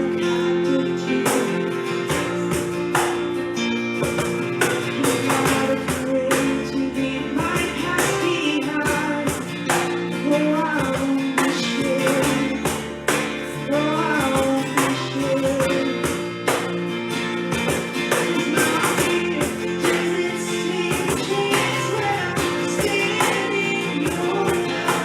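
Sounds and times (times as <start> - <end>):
person singing: 0.0 - 3.1, 4.5 - 16.6, 17.7 - 25.0
strummed acoustic guitar: 0.0 - 25.0.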